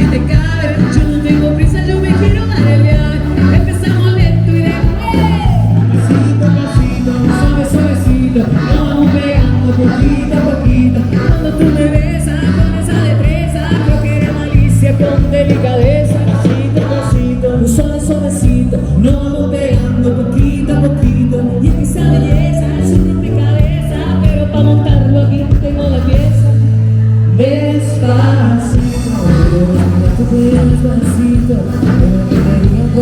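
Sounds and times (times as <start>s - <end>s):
bass line and beat: 0.0s - 27.0s, 28.0s - 33.0s
person singing: 0.0s - 33.0s.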